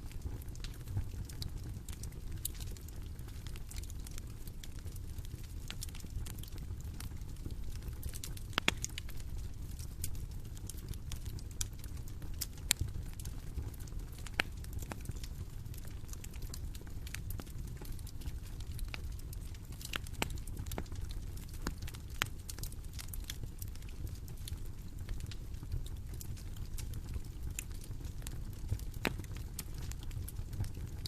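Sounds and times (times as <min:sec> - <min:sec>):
bonfire crackling and popping: 0:00.0 - 0:31.0.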